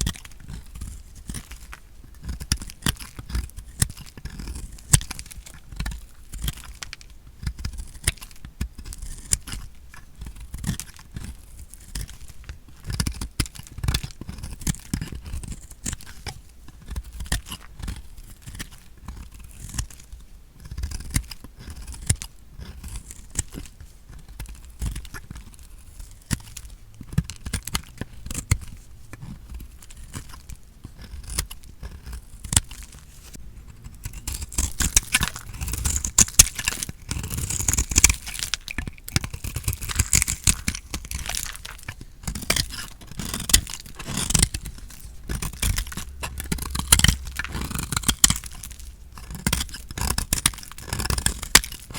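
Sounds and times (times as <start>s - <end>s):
blade cutting through soap: 0.0s - 51.9s.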